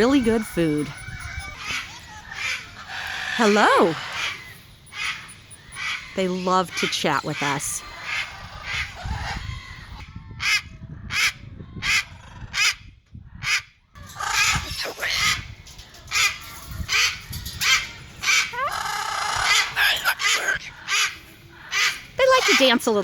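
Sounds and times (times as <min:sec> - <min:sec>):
parrots squawking: 0:00.0 - 0:12.8, 0:13.4 - 0:23.0.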